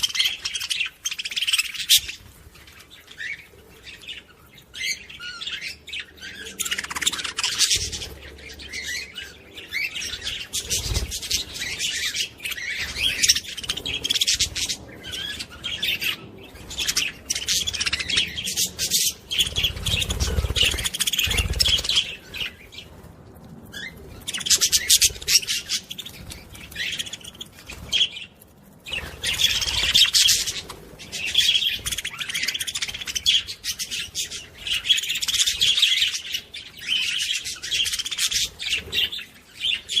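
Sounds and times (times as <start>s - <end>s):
parrots chattering and chirping: 0.0s - 22.9s, 23.7s - 40.0s.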